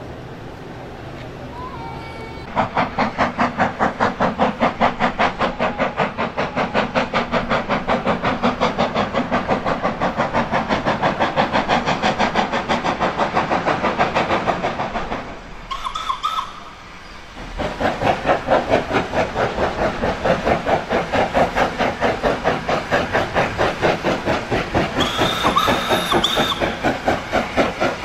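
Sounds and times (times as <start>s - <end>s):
steam hiss: 1.6s - 28.0s
steam locomotive exhaust beats: 2.3s - 28.0s.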